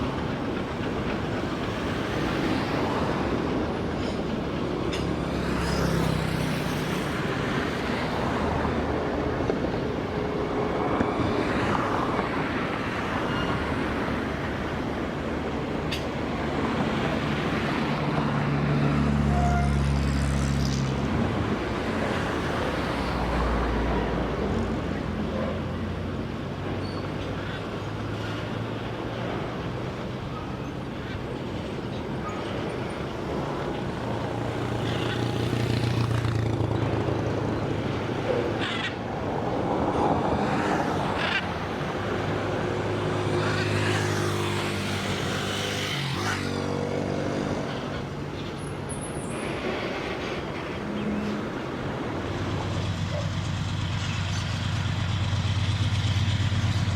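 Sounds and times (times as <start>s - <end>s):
locomotive engine drone: 0.0s - 56.9s.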